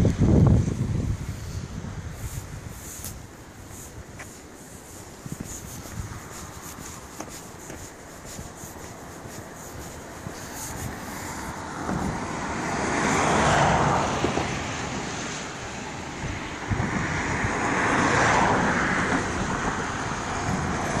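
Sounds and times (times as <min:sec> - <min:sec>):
vehicles passing on a bridge: 0:00.0 - 0:21.0.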